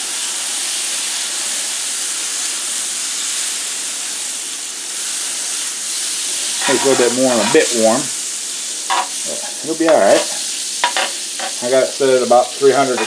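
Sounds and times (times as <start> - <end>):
butter sizzling on a griddle: 0.0 - 13.0.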